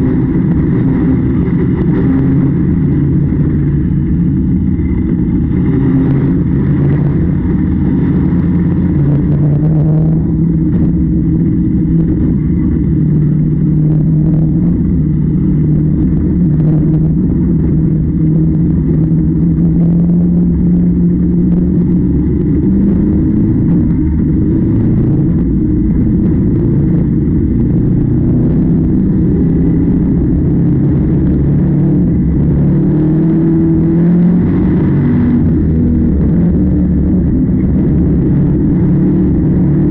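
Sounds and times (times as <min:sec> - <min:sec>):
heavy machinery engine hum: 0:00.0 - 0:39.9.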